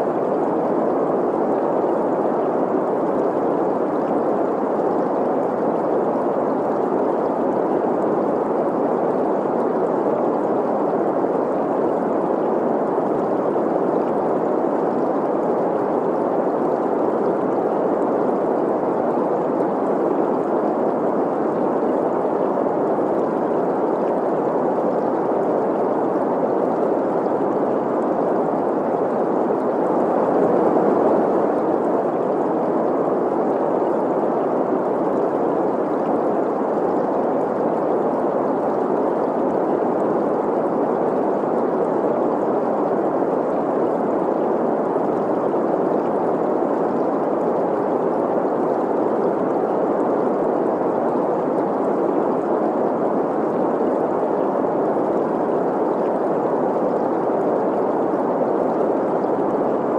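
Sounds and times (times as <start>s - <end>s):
flowing stream: 0.0s - 59.9s.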